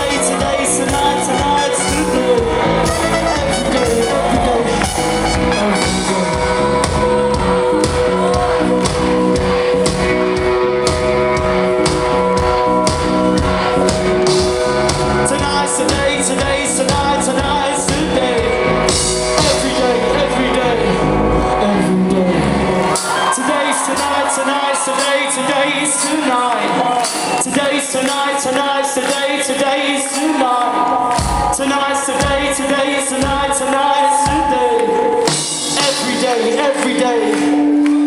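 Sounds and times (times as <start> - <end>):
person singing: 0.0 - 10.8, 13.4 - 38.0
live rock band playing: 0.0 - 38.0.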